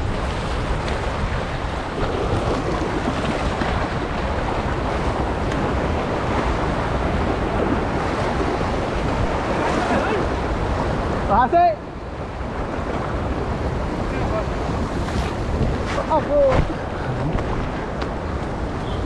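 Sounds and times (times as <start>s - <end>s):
rush of fast-flowing water: 0.0s - 19.0s.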